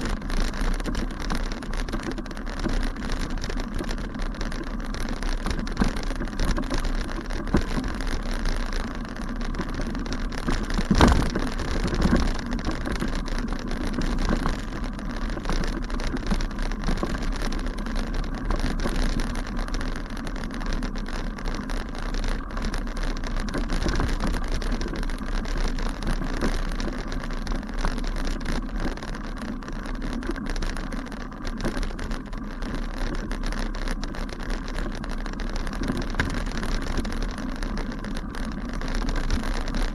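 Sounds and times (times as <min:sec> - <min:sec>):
bicycle rattling on rough ground: 0:00.0 - 0:39.9.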